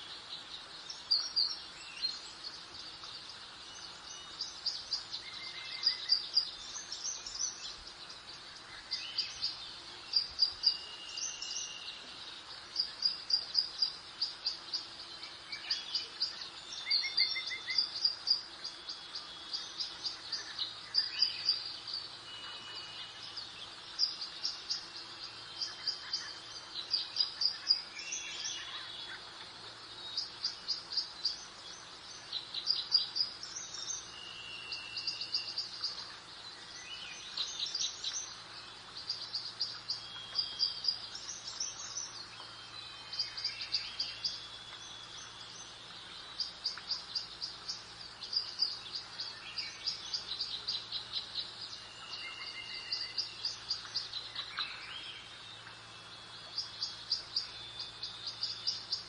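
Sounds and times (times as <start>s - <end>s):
faint outdoor ambience: 0.0s - 59.0s
songbirds trilling: 0.0s - 59.0s.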